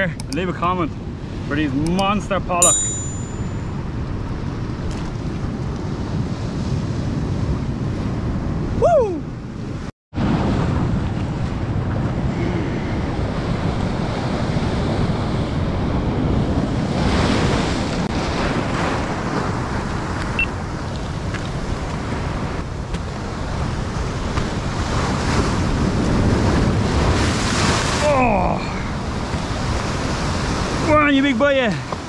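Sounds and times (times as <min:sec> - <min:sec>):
wind noise on microphone: 0:00.0 - 0:31.0
sea waves washing ashore: 0:00.0 - 0:32.0.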